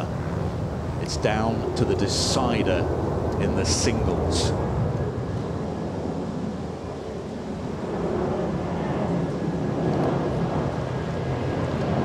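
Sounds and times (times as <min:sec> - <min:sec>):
low outdoor rumble: 0:00.0 - 0:12.0
wind on microphone: 0:00.0 - 0:12.0.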